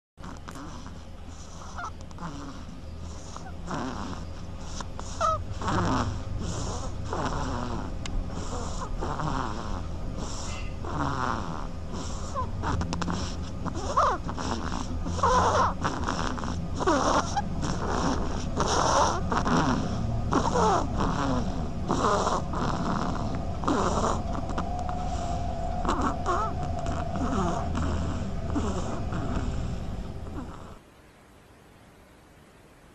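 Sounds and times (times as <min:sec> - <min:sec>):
person snoring: 0:00.2 - 0:30.8.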